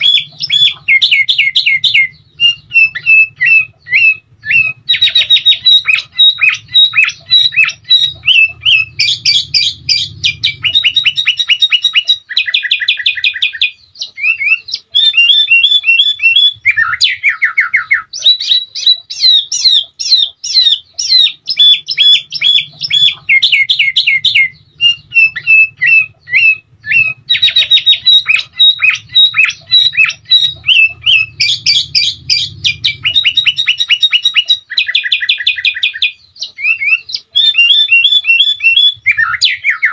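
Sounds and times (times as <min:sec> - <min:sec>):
bulbul chattering and trilling: 0:00.0 - 0:39.9.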